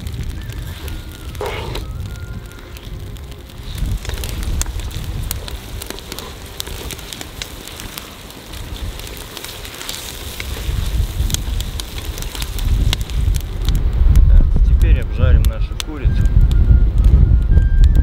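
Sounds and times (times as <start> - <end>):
onions sizzling in butter: 0.0 - 16.1
low rumble: 0.0 - 18.0.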